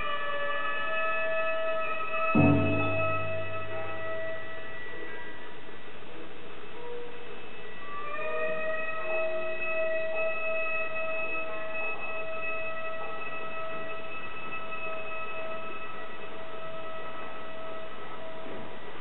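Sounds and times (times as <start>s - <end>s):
wind instrument long held note: 0.0s - 5.7s, 6.8s - 18.8s.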